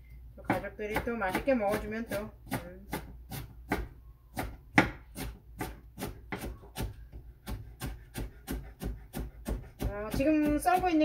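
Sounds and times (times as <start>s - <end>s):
knife chopping on cutting board: 0.5s - 11.0s.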